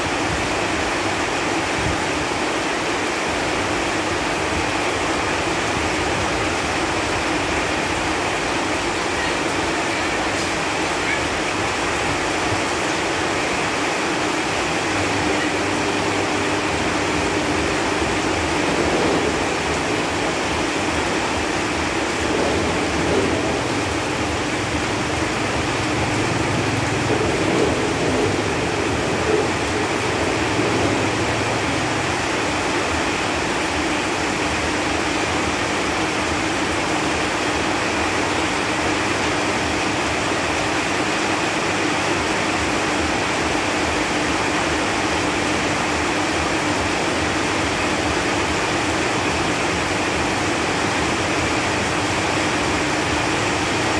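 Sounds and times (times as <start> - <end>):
rain falling on leaves: 0.0 - 53.9.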